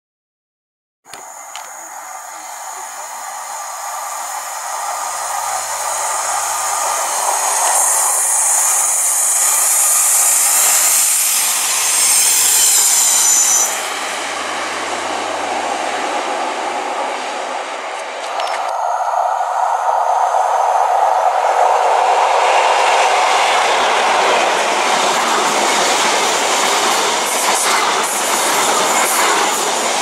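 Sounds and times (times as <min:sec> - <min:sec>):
diesel train passing: 0:01.1 - 0:30.0
high hiss from train wheels: 0:01.1 - 0:30.0.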